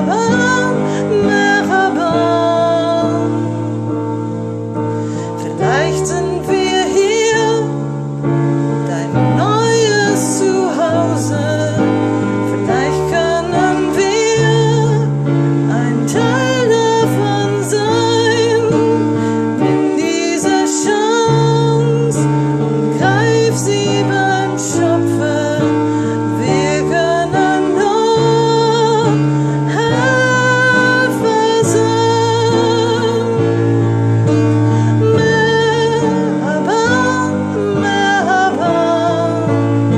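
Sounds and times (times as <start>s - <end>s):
woman singing with vibrato: 0.0s - 4.0s, 5.3s - 39.9s.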